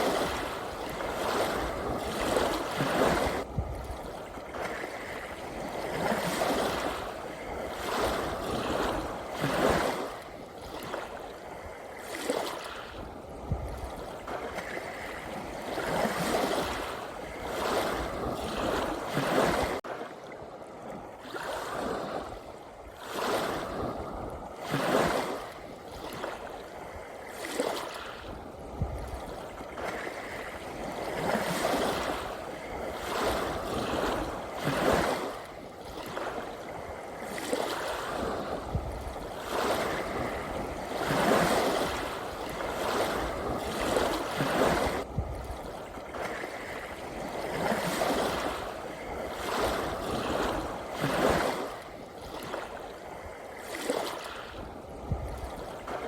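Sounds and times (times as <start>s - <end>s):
ocean waves splashing: 0.0s - 56.0s.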